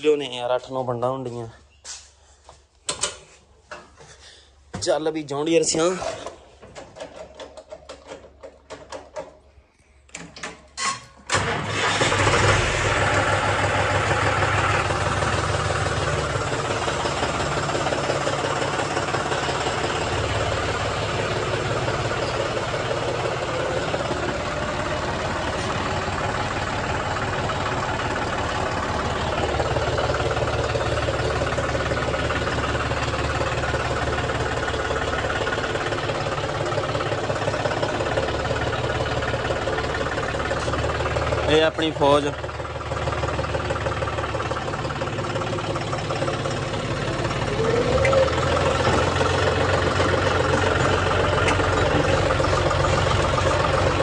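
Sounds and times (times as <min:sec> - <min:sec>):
tractor diesel engine running: 0:02.8 - 0:54.0.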